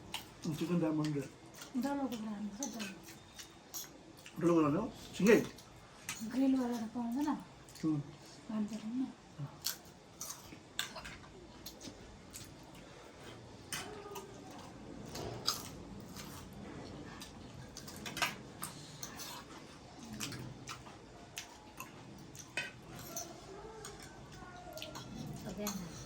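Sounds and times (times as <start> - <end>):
chewing and wet mouth sounds: 0.0 - 26.0.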